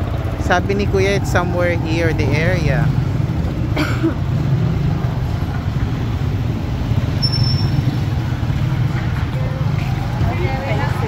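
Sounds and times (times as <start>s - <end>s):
motorcycle riding past: 0.0s - 11.0s
traffic engine rumble: 0.0s - 11.0s.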